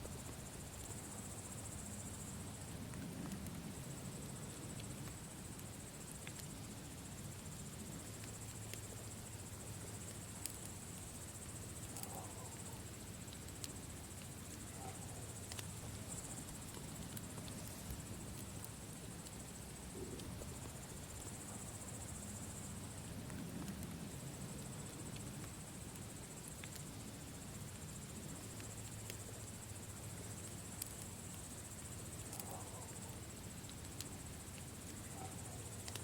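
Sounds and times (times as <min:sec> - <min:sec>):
campfire crackling: 0:00.0 - 0:36.0
crickets chirring: 0:00.0 - 0:36.0.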